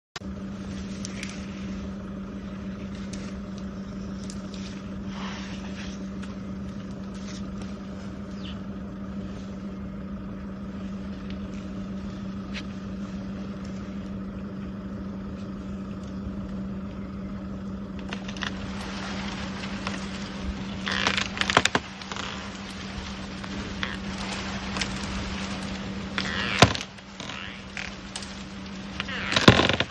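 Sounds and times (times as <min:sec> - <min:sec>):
faint crackles: 0:00.2 - 0:29.9
low mechanical hum: 0:00.2 - 0:29.9
rustling and crunching: 0:00.2 - 0:29.9.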